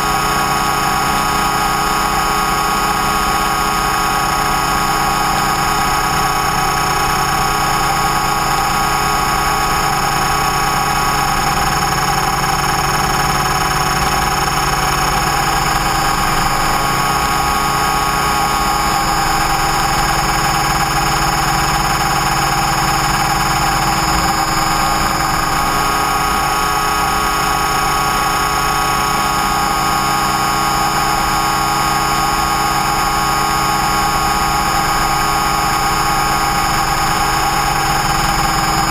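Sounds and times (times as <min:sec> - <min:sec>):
helicopter rotor hum: 0:00.0 - 0:38.9
motor whine: 0:00.0 - 0:38.9.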